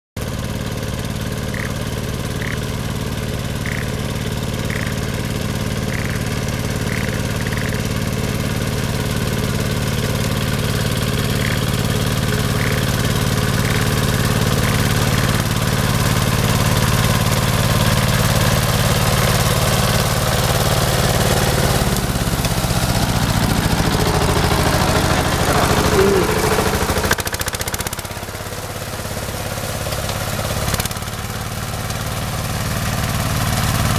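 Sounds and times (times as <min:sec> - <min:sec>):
tiller engine running: 0:00.2 - 0:33.9.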